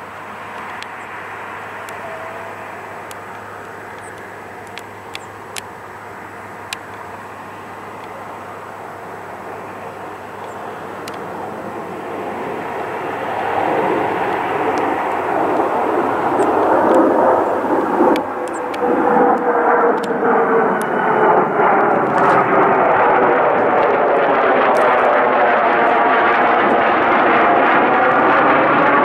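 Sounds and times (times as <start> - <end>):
jet roar overhead: 0.0 - 29.0.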